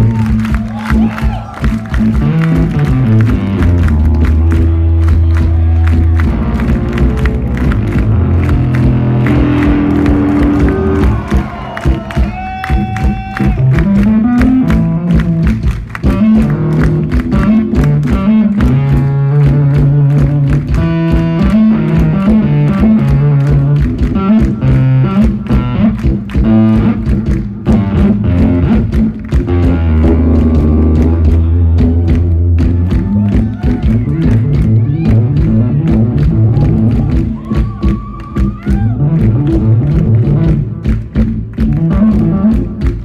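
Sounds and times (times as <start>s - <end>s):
bass line: 0.0s - 43.0s
guitar: 0.0s - 43.0s
busy drum beat: 4.3s - 39.0s.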